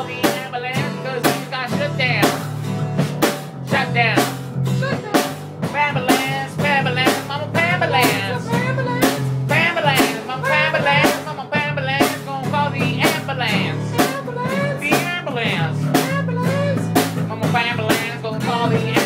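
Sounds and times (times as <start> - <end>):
band playing blues: 0.0 - 19.0
drum kit beat: 0.0 - 19.0
person singing: 0.0 - 19.0.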